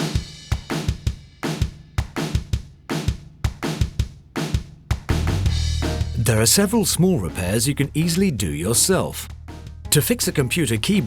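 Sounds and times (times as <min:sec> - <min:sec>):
music with drum-kit beat: 0:00.0 - 0:11.0.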